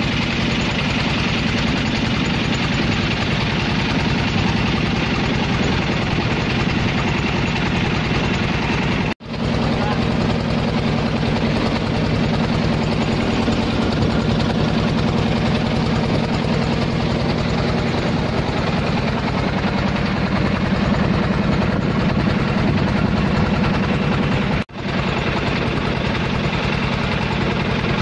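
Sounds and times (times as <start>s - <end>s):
boat motor running: 0.0s - 28.0s.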